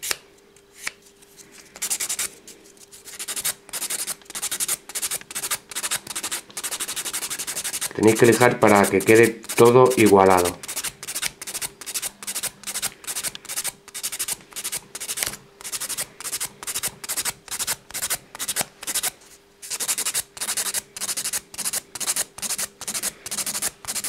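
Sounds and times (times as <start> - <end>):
nail file filing acrylic nail: 3.1 - 19.1, 19.7 - 24.0.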